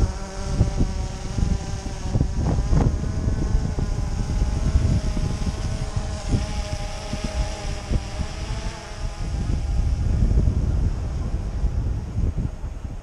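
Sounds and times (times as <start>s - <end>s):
drone propellers humming: 0.0s - 13.0s
wind buffeting microphone: 0.0s - 13.0s.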